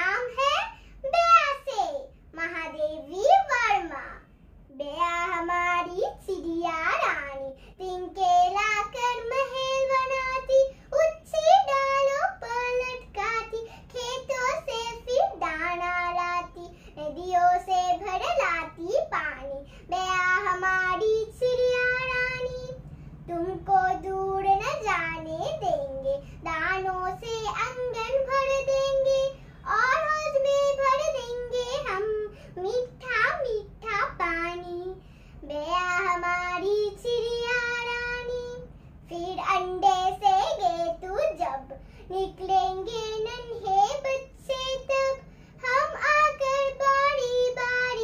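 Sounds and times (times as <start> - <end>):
girl singing: 0.0 - 48.0.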